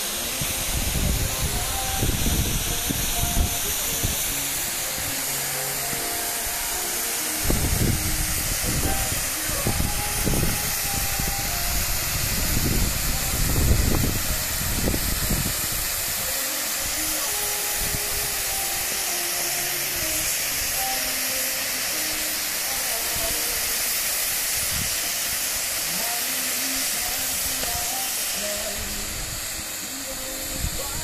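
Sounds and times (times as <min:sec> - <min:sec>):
spark fountains hissing: 0:00.0 - 0:31.0.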